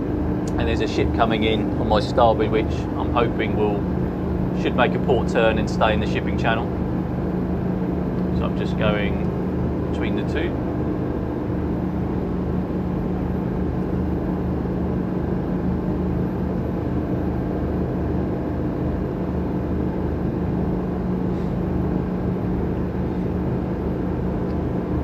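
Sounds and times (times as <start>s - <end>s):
boat diesel engine low drone: 0.0s - 25.0s.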